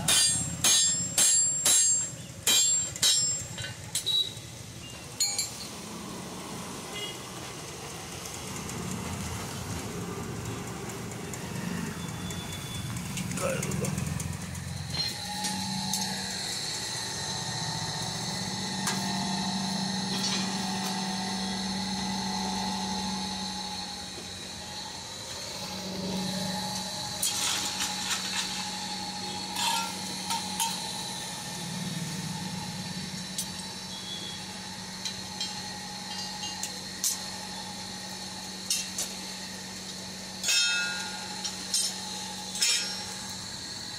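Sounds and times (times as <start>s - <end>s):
forge blower running: 0.0s - 43.9s
small motor droning: 5.6s - 43.9s.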